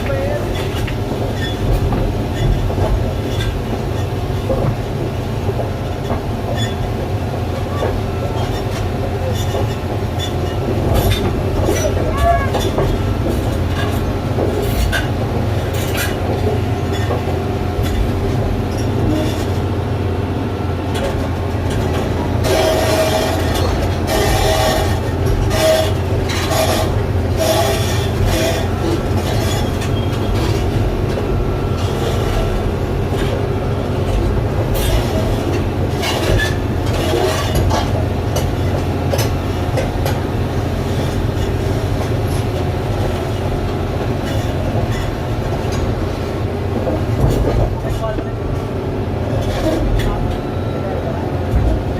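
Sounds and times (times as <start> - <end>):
excavator engine drone: 0.0 - 51.9
track clanking and squealing: 0.0 - 51.9.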